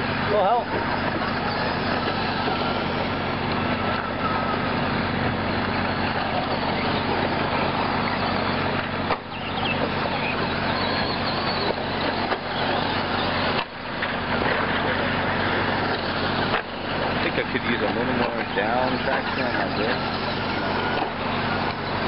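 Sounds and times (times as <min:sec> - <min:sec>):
low hum: 0:00.0 - 0:22.0
radio-controlled truck motors whining: 0:00.0 - 0:22.0
tyres on dirt track: 0:00.0 - 0:22.0.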